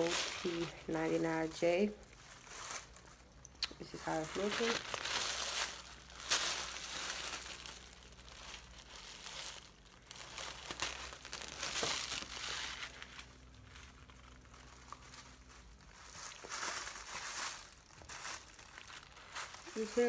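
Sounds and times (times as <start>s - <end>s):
wig hair rustling and crinkling: 0.0s - 20.0s.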